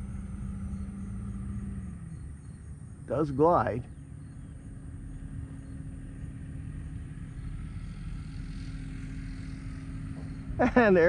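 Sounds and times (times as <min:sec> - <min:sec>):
faint constant hum: 0:00.0 - 0:11.0
low outdoor rumble: 0:00.0 - 0:11.0.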